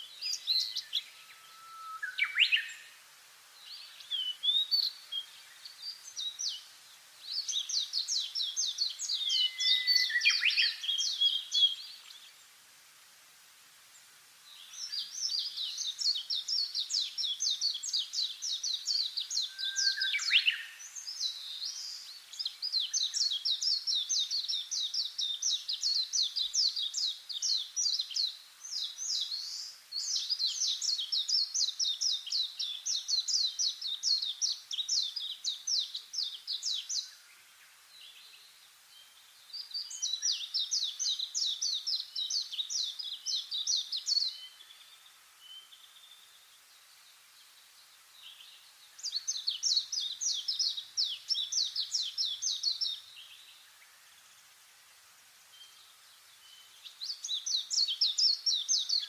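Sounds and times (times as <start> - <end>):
songbird rapid high chirps: 3.6 - 12.3, 14.5 - 46.4, 48.2 - 53.9, 55.5 - 59.0.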